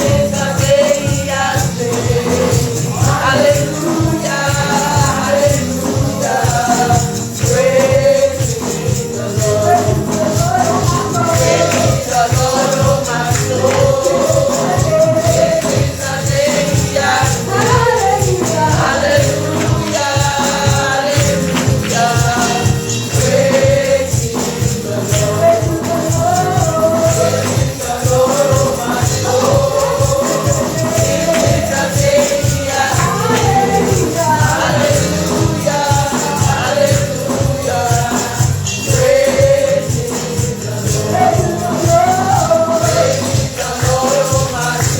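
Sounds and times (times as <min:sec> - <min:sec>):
choir and congregation singing: 0:00.0 - 0:44.9
tambourine: 0:00.0 - 0:44.9.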